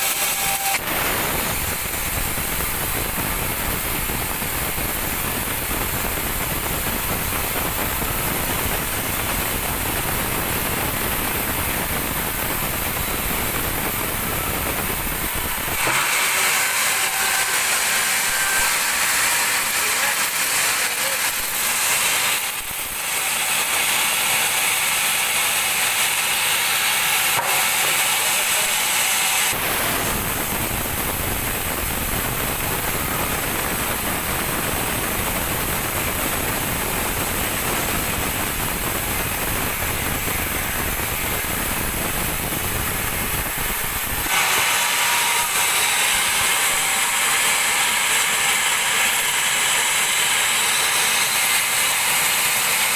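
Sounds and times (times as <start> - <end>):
band saw cutting wood: 0.0 - 35.5, 36.6 - 52.9.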